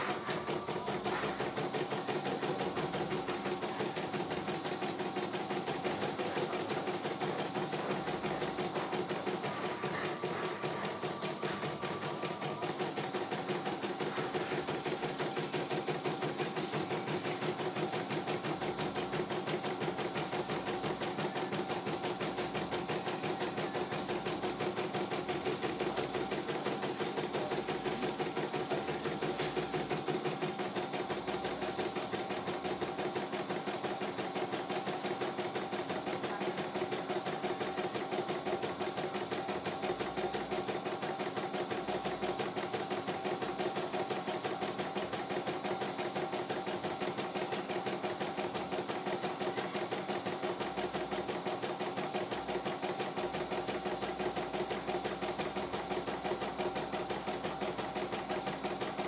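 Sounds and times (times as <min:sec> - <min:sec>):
embroidery machine needle stitching: 0:00.0 - 0:59.0.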